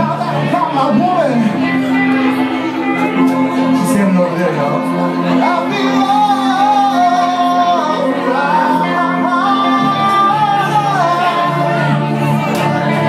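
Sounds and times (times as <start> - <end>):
lead singer singing: 0.0 - 13.0
live band playing: 0.0 - 13.0
steady bass line: 0.0 - 13.0.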